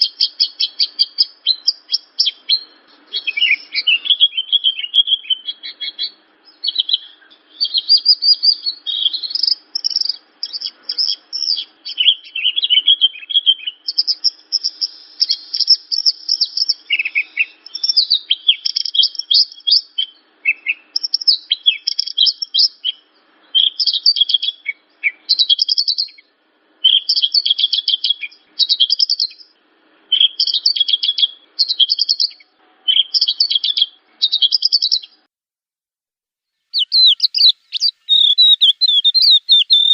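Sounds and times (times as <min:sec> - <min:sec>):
lark singing rapid chattering song: 0:00.0 - 0:35.2, 0:36.7 - 0:39.9.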